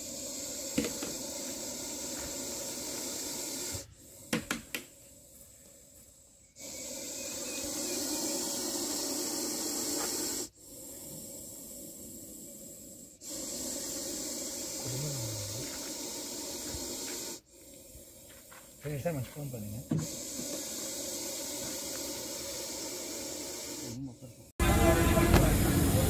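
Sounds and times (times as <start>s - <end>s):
snake hissing: 0.0s - 24.6s.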